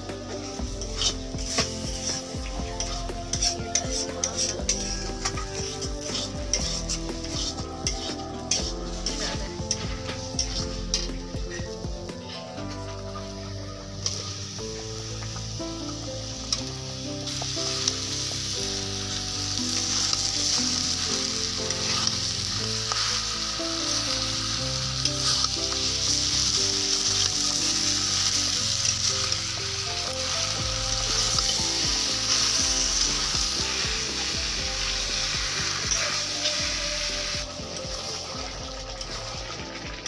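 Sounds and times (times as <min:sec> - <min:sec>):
background music: 0:00.0 - 0:40.0
chicken sizzling in hot oil: 0:00.0 - 0:40.0.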